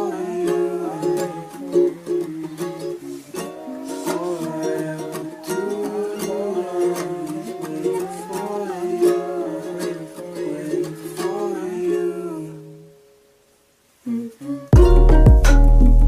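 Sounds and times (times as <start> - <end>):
plucked ukulele melody: 0.0 - 13.3, 14.5 - 16.0.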